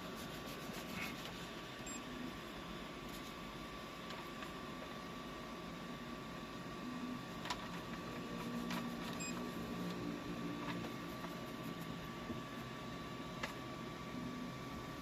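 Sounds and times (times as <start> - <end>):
printer high whine: 0.0 - 15.0.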